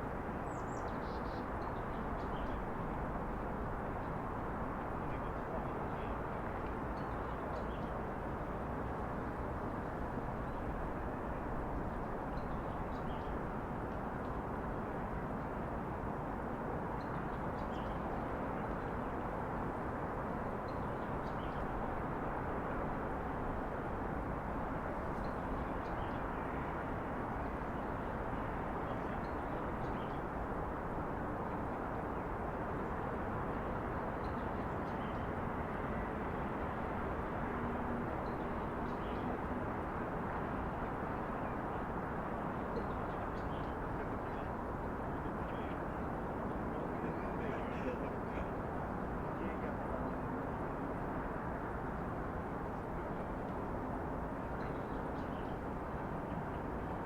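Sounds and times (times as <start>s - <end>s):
distant city traffic hum: 4.4s - 57.0s.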